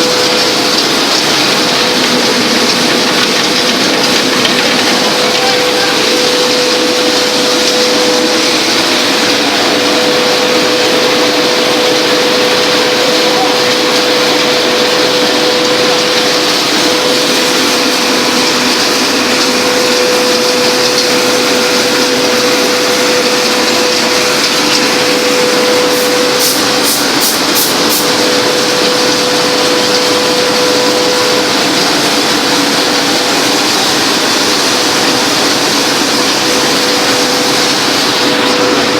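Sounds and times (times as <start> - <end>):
production line machinery running: 0.0 - 38.9.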